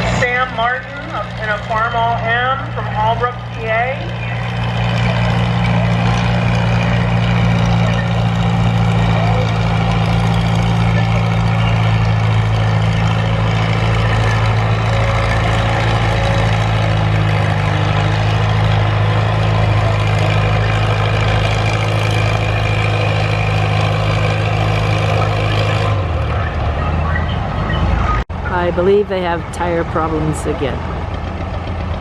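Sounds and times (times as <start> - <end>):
tractor engine running loud: 0.0 - 32.0.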